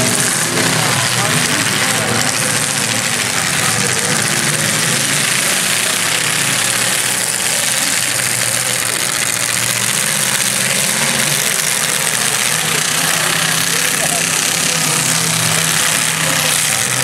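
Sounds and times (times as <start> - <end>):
car engines running: 0.0 - 17.0.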